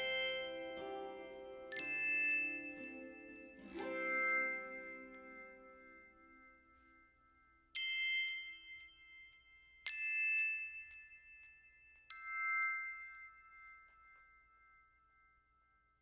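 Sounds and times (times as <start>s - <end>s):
bell-like struck notes: 0.0s - 16.0s.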